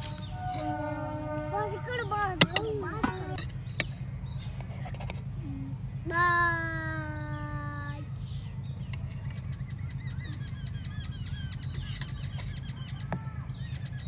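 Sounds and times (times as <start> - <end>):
small birds chirping: 0.0 - 5.8, 7.0 - 14.0
steady low rumble: 0.0 - 14.0.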